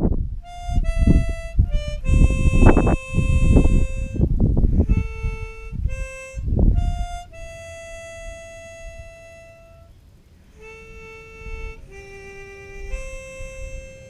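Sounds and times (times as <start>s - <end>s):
harmonica playing slow notes: 0.0s - 14.0s
low rumble bursts: 0.0s - 14.0s.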